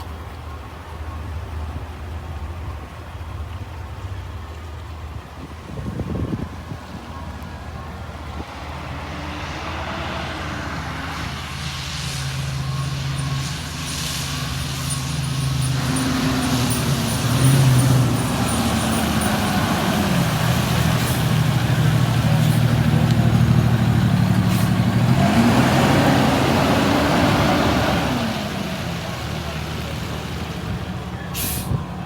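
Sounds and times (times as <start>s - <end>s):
fire engine diesel engine: 0.0s - 32.0s.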